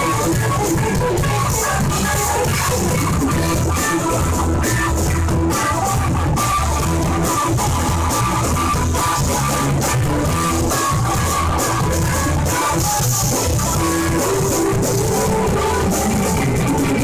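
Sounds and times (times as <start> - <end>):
bass line: 0.0 - 17.0
drum kit with cymbals: 0.0 - 17.0
electric guitars: 0.0 - 17.0.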